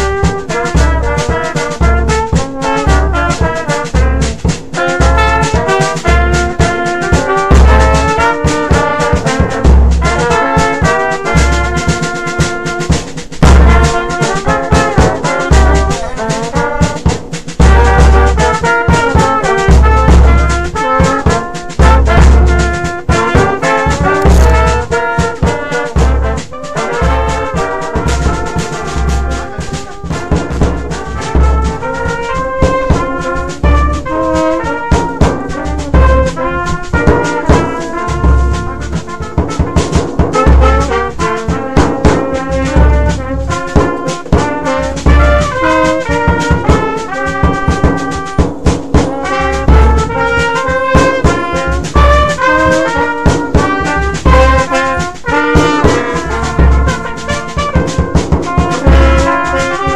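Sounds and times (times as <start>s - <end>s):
hand drums: 0.0s - 59.9s
steady bass drum beat: 0.0s - 59.9s
trombone and trumpets melody: 0.0s - 59.9s.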